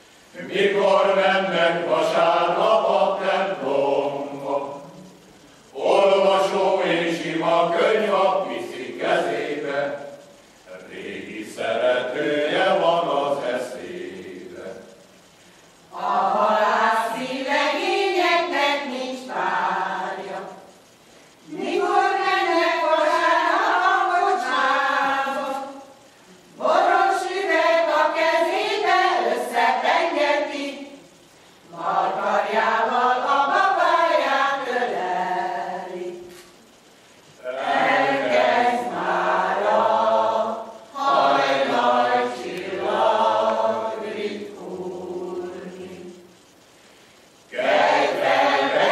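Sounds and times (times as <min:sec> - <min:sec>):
mixed choir singing unaccompanied: 0:00.3 - 0:15.0, 0:15.8 - 0:20.8, 0:21.4 - 0:36.4, 0:37.3 - 0:46.6, 0:47.4 - 0:48.9.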